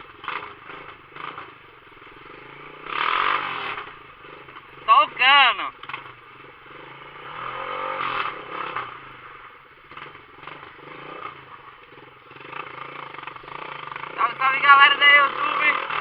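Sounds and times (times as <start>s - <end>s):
motorcycle engine without muffler: 0.0s - 16.0s.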